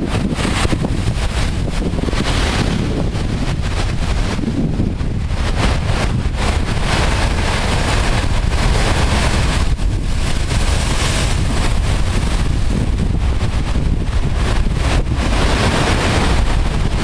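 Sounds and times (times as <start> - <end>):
storm surf crashing on rocks: 0.0 - 17.0
wind buffeting microphone: 0.0 - 17.0.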